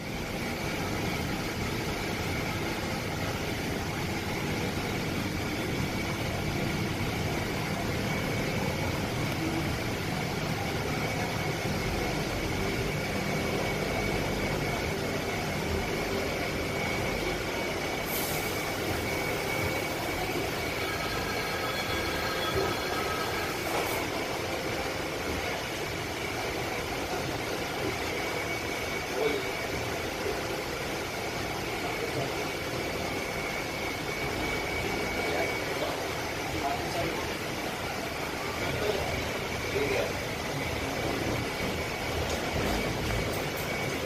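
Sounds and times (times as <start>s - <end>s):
faint high whine: 0.0s - 44.0s
train rumble and rail noise: 0.0s - 44.0s.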